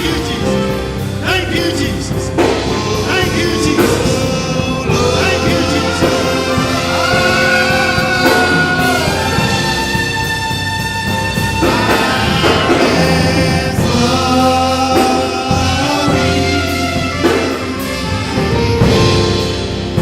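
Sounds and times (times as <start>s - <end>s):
person singing: 0.0s - 10.4s, 11.6s - 18.6s
gospel music with held chords: 0.0s - 20.0s.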